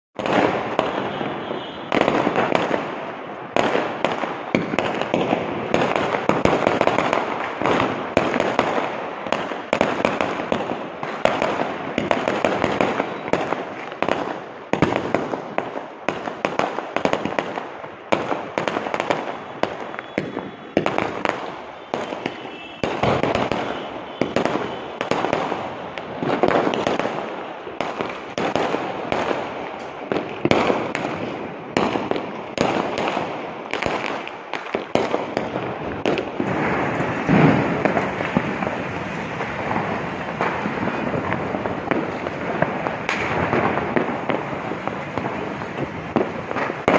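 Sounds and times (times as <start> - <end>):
fireworks bangs and crackling: 0.1 - 46.9.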